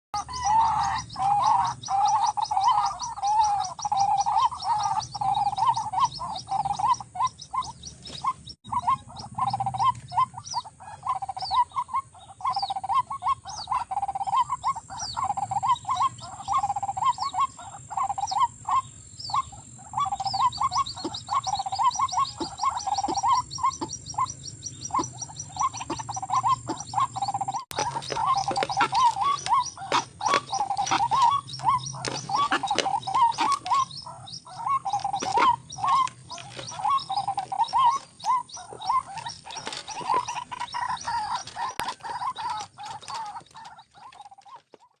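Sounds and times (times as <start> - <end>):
high chirping birds or insects: 0.2 - 45.0
waterhen croaking calls: 0.2 - 45.0.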